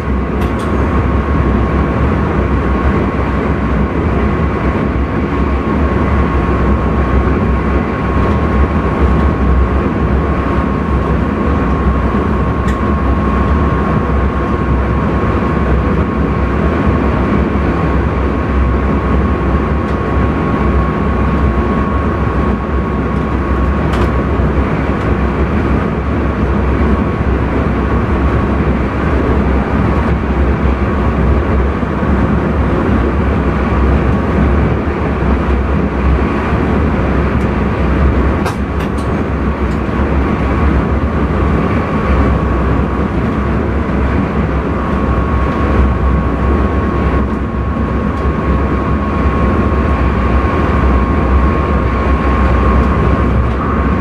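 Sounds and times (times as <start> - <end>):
train running noise from cab: 0.0 - 54.0.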